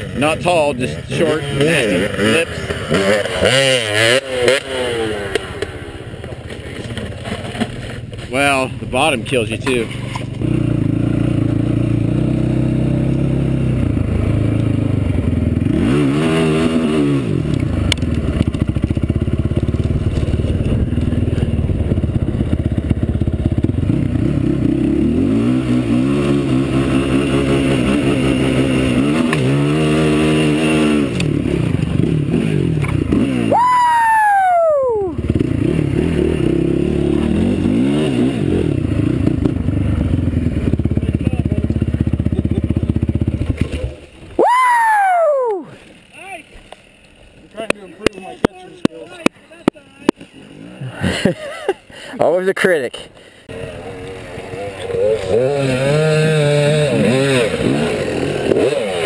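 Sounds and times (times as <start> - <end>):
quad bike engine revving: 0.0 - 51.9, 52.9 - 59.0.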